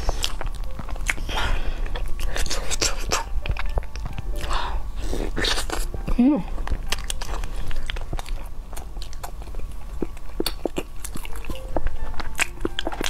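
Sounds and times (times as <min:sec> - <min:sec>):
chewing with wet smacks: 0:00.0 - 0:04.5, 0:05.3 - 0:13.0.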